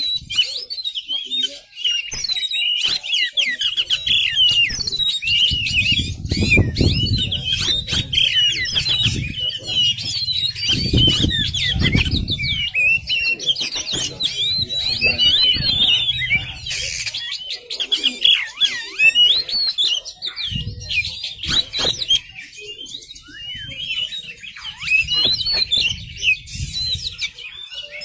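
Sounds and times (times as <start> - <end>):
bird singing chirps and whistles: 0.0 - 28.0.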